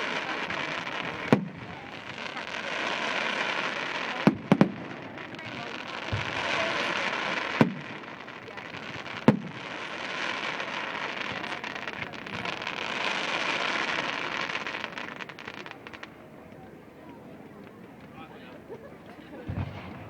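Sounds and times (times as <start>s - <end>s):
firework bangs: 0.0s - 16.2s, 19.4s - 20.0s
firework crackling hiss: 0.0s - 16.2s.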